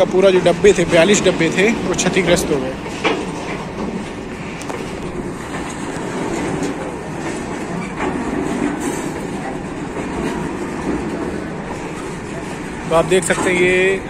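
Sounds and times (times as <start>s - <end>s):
rail clacks: 0.0s - 14.0s
steel wheels rumbling on track: 0.0s - 14.0s.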